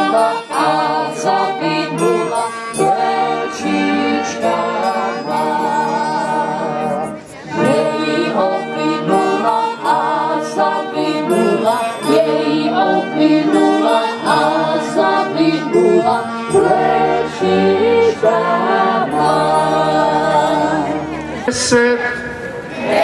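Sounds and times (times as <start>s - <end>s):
voices singing a melody: 0.0s - 21.5s, 22.7s - 23.0s
steady held accompaniment: 0.0s - 23.0s.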